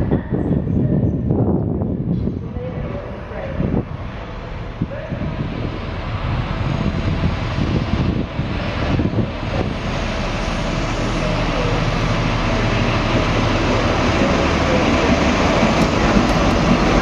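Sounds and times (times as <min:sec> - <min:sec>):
train diesel engine humming: 0:00.0 - 0:17.0.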